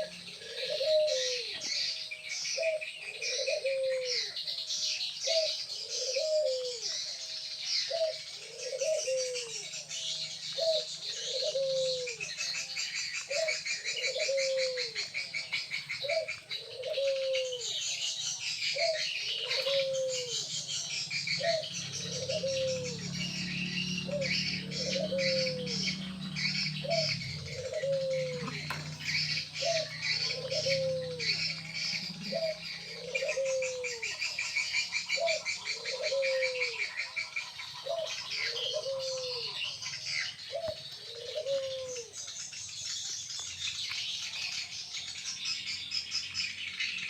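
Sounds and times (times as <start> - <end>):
high bird chirps chatter: 0.0 - 47.0.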